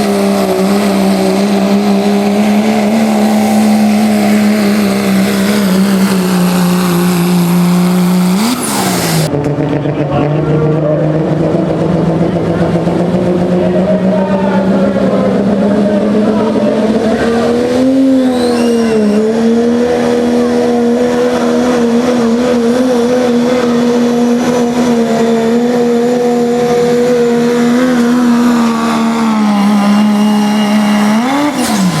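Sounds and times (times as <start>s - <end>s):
diesel engine at high revs: 0.0s - 32.0s.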